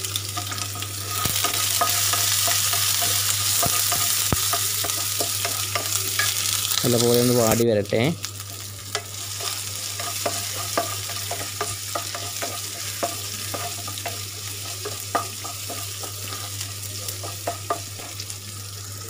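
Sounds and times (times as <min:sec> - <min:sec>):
shallots sizzling in oil: 0:00.0 - 0:19.0.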